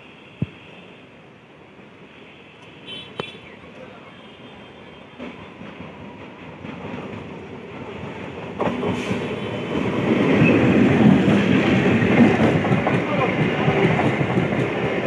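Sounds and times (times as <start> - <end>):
train passing with wheel clatter: 0.0 - 15.0.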